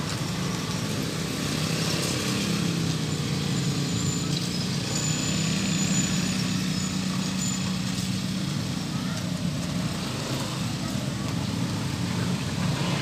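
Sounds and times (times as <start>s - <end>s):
motor scooter engines humming: 0.0s - 13.0s.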